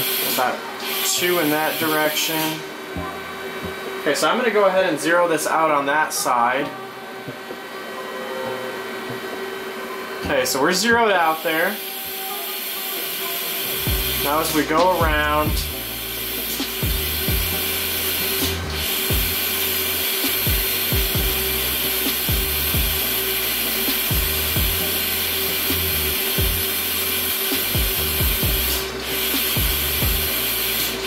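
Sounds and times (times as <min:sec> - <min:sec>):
lo-fi hip-hop music: 0:00.0 - 0:31.0.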